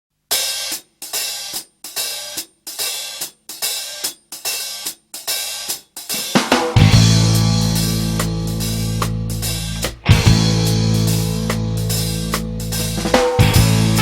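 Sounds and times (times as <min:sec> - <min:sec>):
cymbals struck in steady beat: 0:00.3 - 0:14.0.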